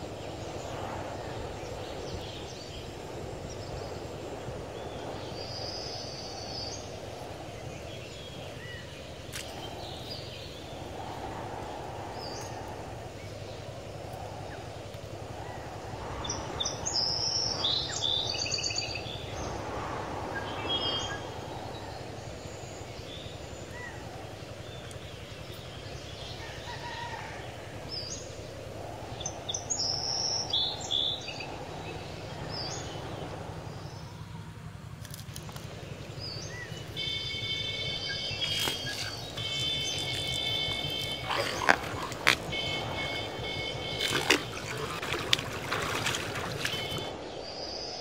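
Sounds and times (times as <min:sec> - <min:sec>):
birds chirping: 0:00.0 - 0:48.0
outdoor background noise: 0:00.0 - 0:48.0.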